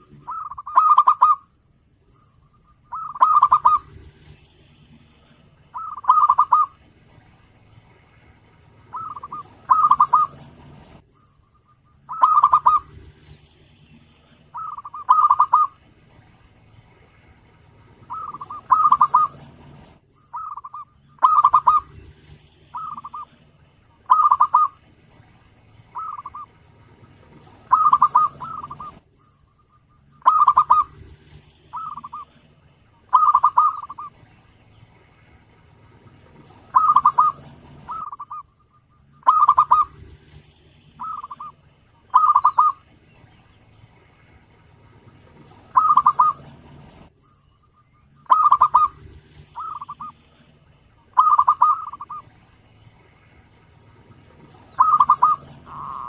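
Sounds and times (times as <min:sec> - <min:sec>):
dove cooing: 0:00.0 - 0:01.5, 0:02.1 - 0:04.4, 0:05.2 - 0:07.0, 0:08.7 - 0:15.9, 0:17.7 - 0:34.4, 0:35.9 - 0:43.0, 0:44.9 - 0:47.1, 0:47.7 - 0:52.4, 0:53.6 - 0:56.0.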